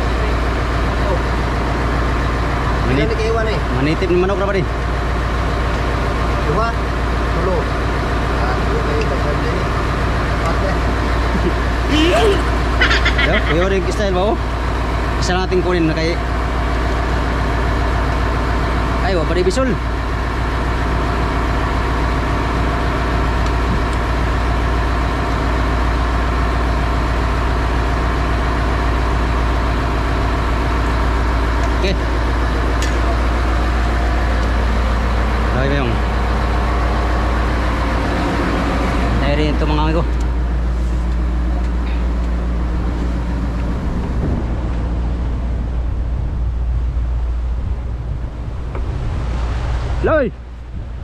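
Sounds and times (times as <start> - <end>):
boat engine humming: 0.0 - 50.9.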